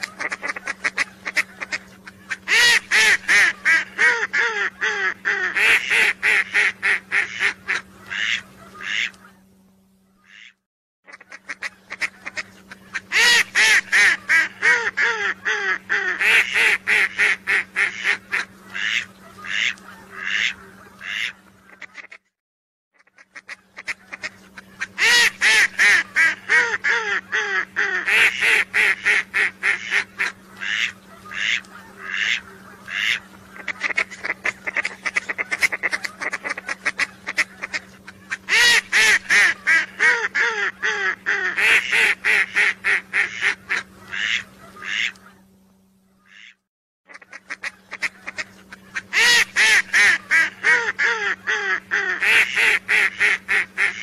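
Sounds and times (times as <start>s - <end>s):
ducks calling: 0.0s - 22.2s, 23.0s - 54.0s
steady low hum: 0.0s - 22.3s, 23.0s - 54.0s.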